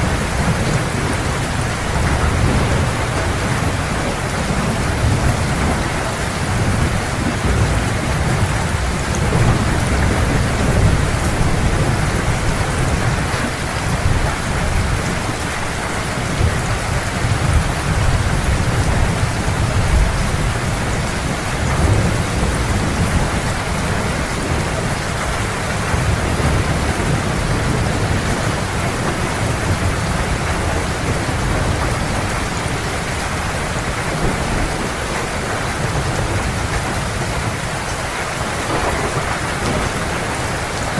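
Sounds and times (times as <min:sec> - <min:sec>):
heavy rain pouring: 0:00.0 - 0:40.9
low rolling thunder: 0:00.0 - 0:40.9.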